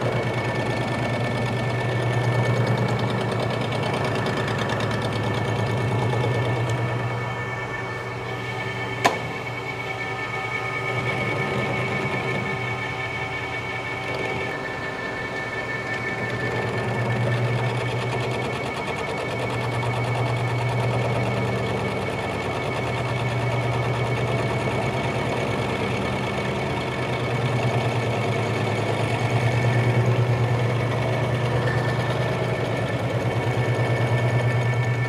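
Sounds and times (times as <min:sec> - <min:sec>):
high whines: 0:00.0 - 0:35.0
lathe motor hum: 0:00.0 - 0:35.0.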